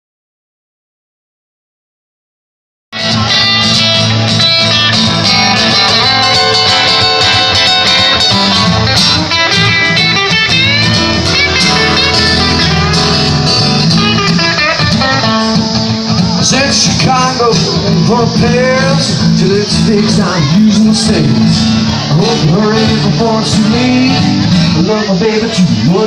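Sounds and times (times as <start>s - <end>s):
guitar strumming and picking: 3.0s - 26.0s.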